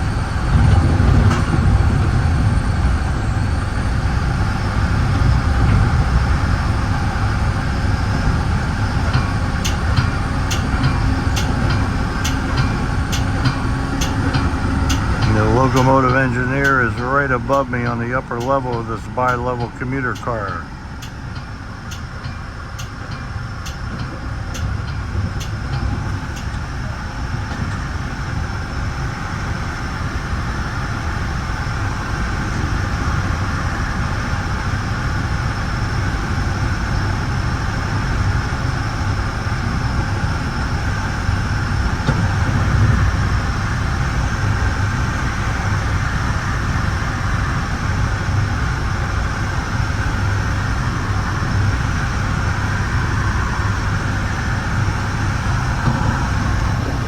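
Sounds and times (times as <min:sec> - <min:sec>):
train wheels on rails rumbling: 0:00.0 - 0:57.0.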